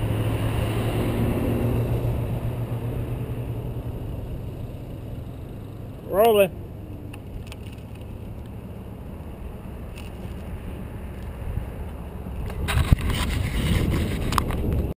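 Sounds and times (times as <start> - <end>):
road noise: 0.0 - 15.0
wind rumble: 0.0 - 15.0.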